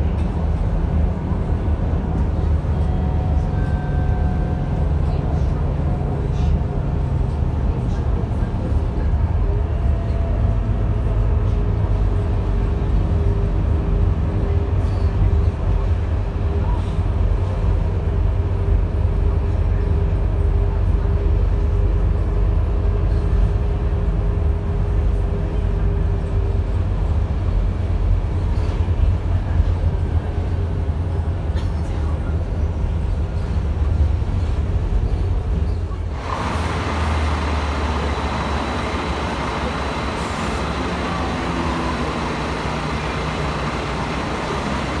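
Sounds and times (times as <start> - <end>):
bus engine and road rumble: 0.0 - 45.0.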